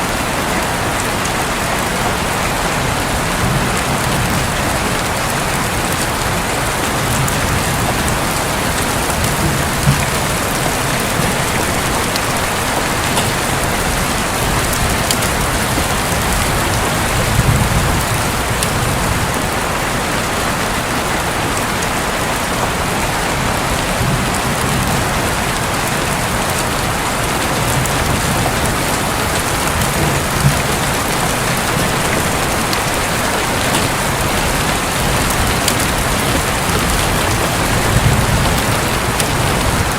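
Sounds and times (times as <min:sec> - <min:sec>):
rain drumming on a roof: 0:00.0 - 0:39.9
distant thunder rumbles: 0:02.1 - 0:19.8, 0:23.4 - 0:39.9.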